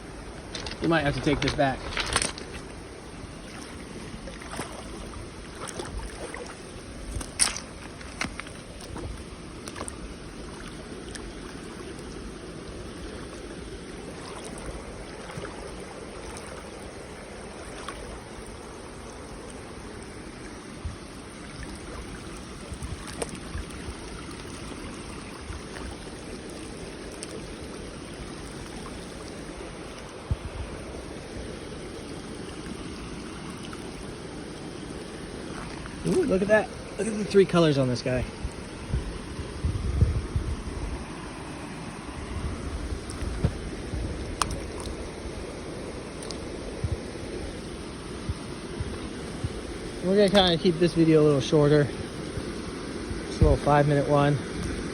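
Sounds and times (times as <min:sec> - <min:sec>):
creek water flowing: 0:00.0 - 0:54.9.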